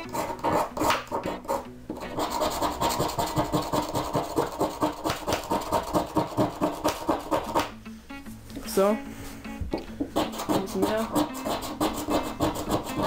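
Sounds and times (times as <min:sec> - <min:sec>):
metal scraper rasping on a block: 0:00.0 - 0:07.7, 0:10.1 - 0:13.0.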